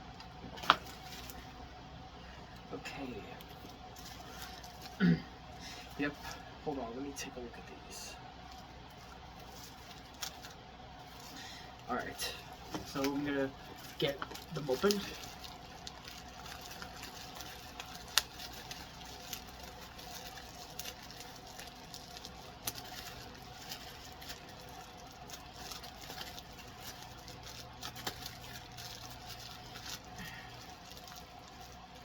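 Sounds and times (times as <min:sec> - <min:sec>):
packaging clicks and rustles: 0:00.2 - 0:01.4, 0:03.4 - 0:05.0, 0:08.5 - 0:32.0.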